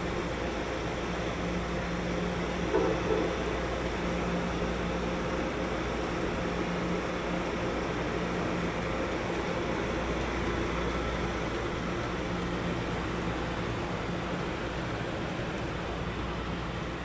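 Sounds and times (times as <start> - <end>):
train rumble and low hum: 0.0 - 17.0.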